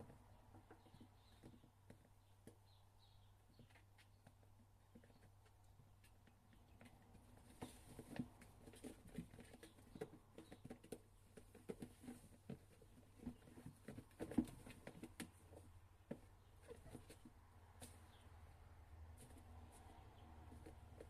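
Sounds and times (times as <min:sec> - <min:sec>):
kittens' paws tapping: 0:00.0 - 0:18.2, 0:19.1 - 0:21.0.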